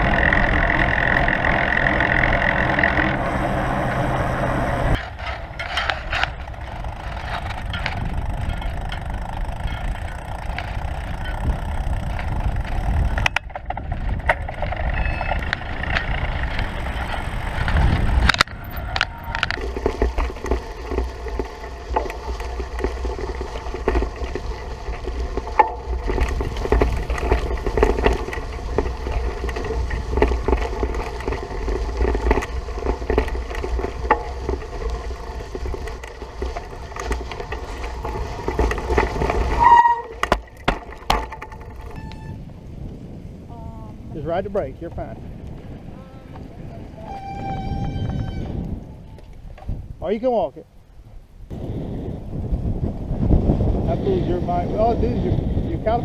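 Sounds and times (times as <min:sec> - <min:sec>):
bicycle tyre noise: 0:00.0 - 0:56.0
wind rushing over microphone: 0:00.0 - 0:56.0.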